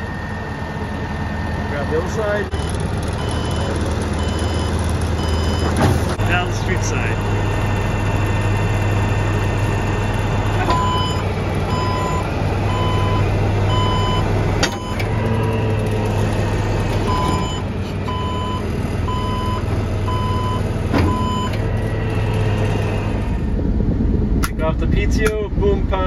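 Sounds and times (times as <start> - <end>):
warning alarm beeping: 0.0 - 16.2, 17.1 - 22.5
truck engine running: 0.0 - 26.0.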